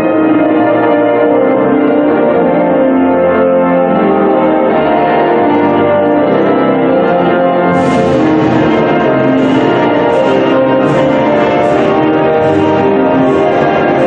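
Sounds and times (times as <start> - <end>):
instrumental music with held chords: 2.2 - 14.0.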